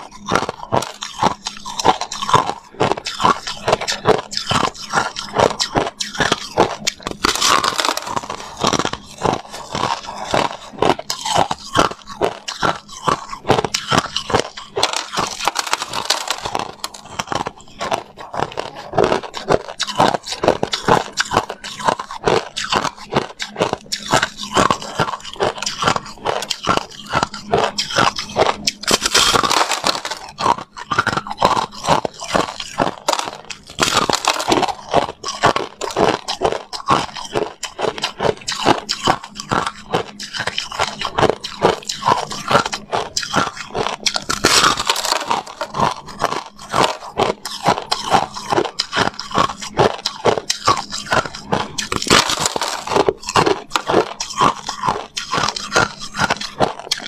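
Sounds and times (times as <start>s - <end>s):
ice crunching while chewing: 0.0s - 57.0s.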